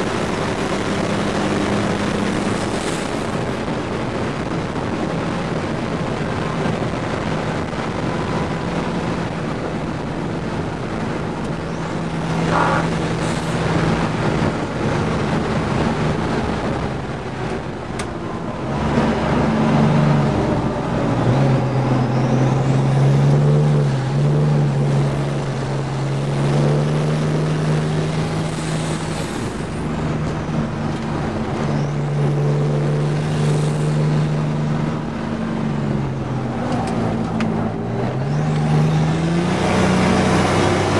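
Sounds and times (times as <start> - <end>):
car engine running hard: 0.0 - 40.9
wind and road noise: 0.0 - 40.9.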